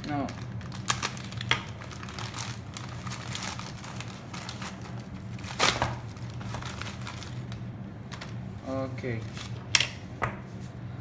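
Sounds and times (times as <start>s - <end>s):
plastic bag tearing and crinkling: 0.0s - 8.4s, 9.2s - 9.7s.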